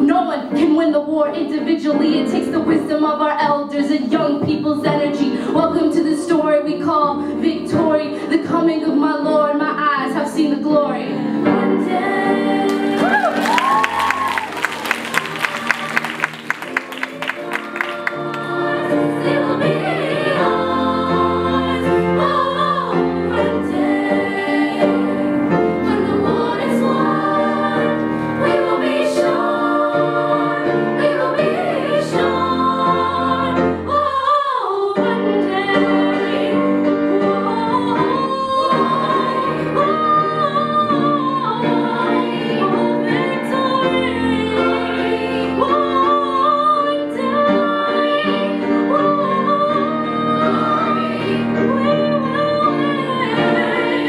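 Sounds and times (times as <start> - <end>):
girls choir singing: 10.4 - 54.0.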